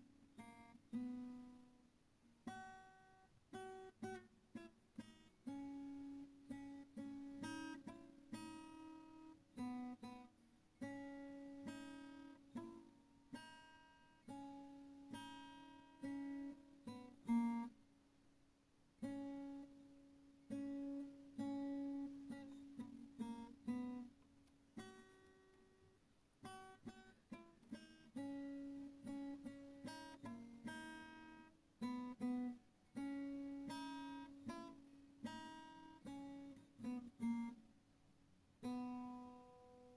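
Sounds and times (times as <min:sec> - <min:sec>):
plucked acoustic guitar melody: 0:00.0 - 0:17.8, 0:18.9 - 0:37.8, 0:38.5 - 0:39.9.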